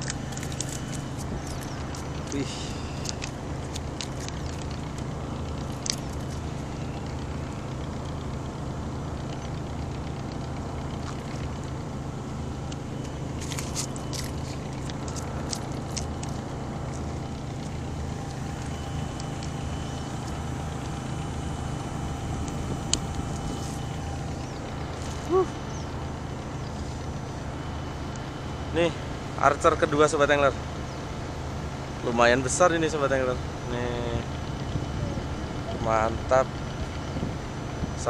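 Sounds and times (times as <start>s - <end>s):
engine drone: 0.0s - 38.0s.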